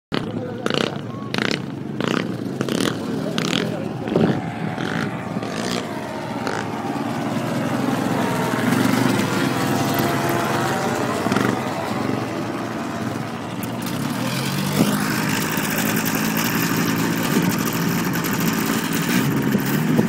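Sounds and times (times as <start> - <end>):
engine and propeller running: 0.1 - 20.0.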